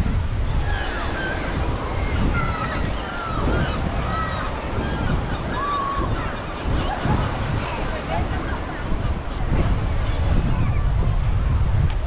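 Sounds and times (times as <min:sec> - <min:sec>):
sea surf washing onto beach: 0:00.0 - 0:12.0
wind buffeting microphone: 0:00.0 - 0:12.0
distant voices shouting: 0:00.6 - 0:10.7.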